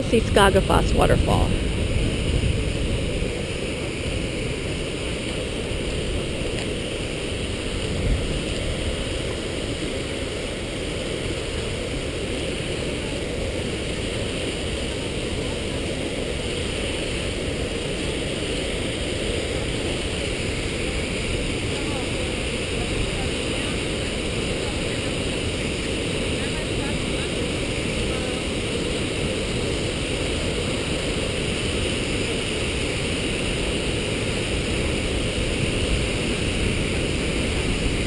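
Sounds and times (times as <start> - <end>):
waterfall roaring: 0.0 - 38.0.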